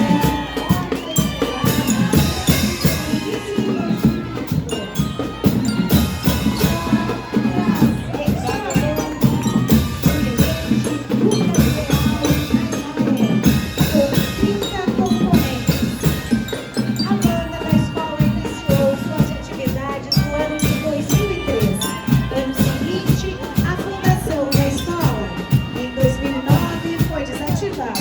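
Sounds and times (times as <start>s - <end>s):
marching band playing: 0.0s - 28.0s
steady drum beat: 0.0s - 28.0s.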